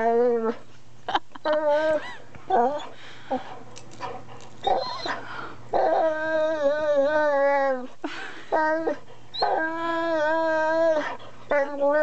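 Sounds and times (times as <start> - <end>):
dog moaning and whining: 0.0 - 0.7, 1.4 - 12.0.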